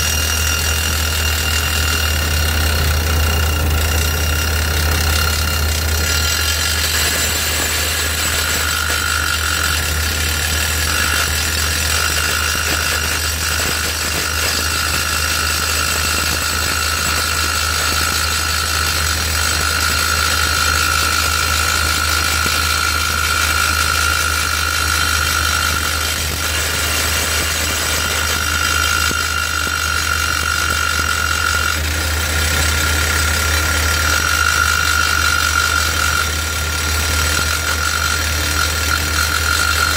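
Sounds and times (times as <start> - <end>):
engine running steadily: 0.0 - 39.9
high whine: 0.0 - 39.9
hydraulic drill in concrete: 0.0 - 39.9.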